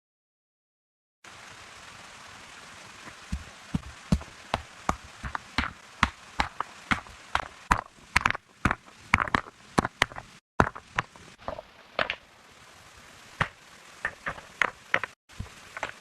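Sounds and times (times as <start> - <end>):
steady rain hiss: 1.2 - 16.0.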